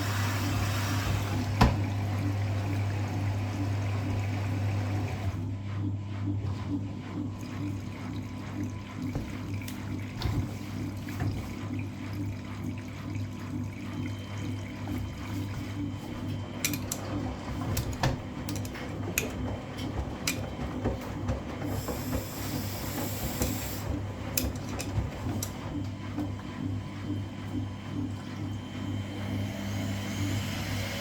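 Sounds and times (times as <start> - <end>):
washing machines running: 0.0 - 31.0.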